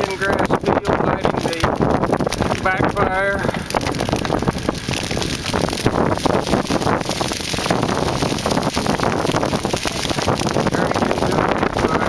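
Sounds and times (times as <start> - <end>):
grass fire crackling: 0.0 - 12.0
wind buffeting microphone: 0.0 - 12.0.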